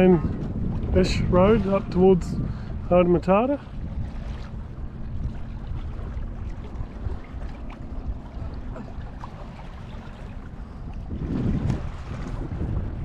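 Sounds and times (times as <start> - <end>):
water lapping against boat hull: 0.0 - 13.0
wind rumble on microphone: 0.0 - 13.0.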